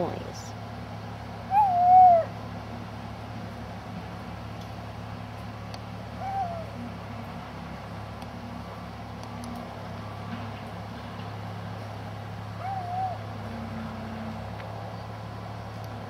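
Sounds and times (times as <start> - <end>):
construction machinery drone: 0.0 - 16.0.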